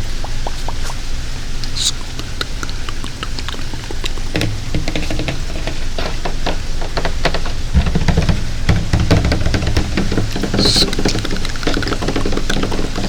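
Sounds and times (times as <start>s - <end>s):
fingers tapping on water container: 0.0s - 13.0s.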